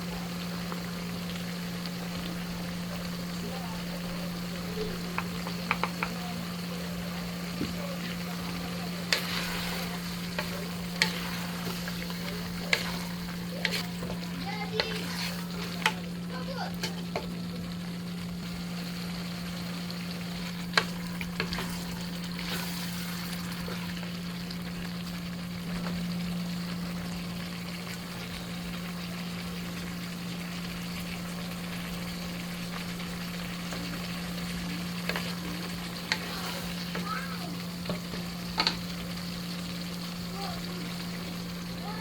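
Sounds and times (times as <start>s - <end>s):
steady low hum: 0.0s - 41.9s
food sizzling in a pot: 0.0s - 42.0s.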